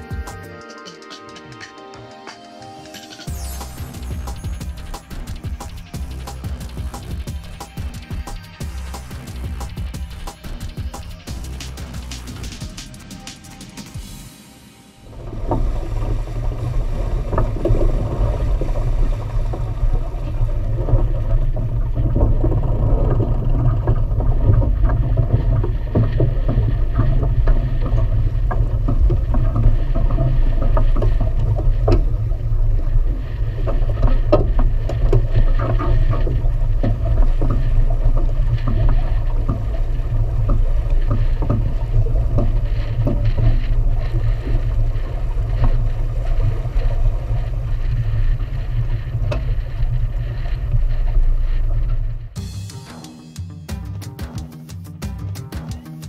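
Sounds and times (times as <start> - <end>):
water rushing along hull: 3.2 - 52.4.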